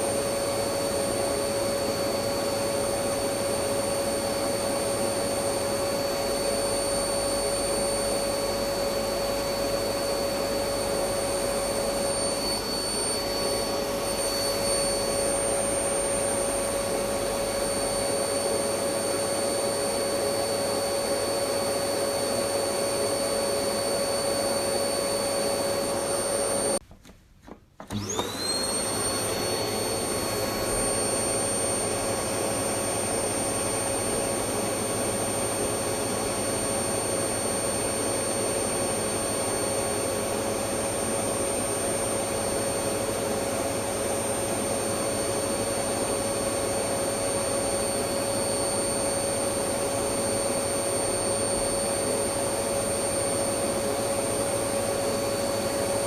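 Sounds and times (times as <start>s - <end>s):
vacuum cleaner motor whine: 0.0s - 26.8s, 27.8s - 56.0s.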